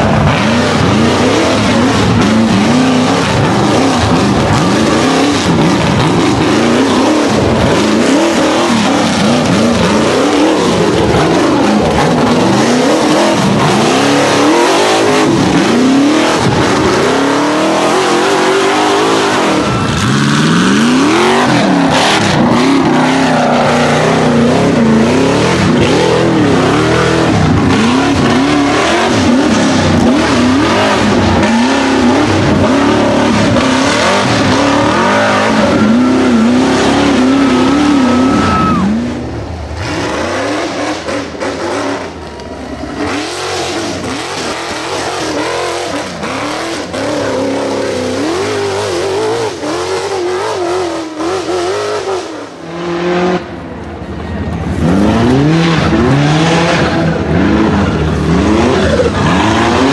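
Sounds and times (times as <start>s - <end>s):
buggy engines revving: 0.0s - 59.9s.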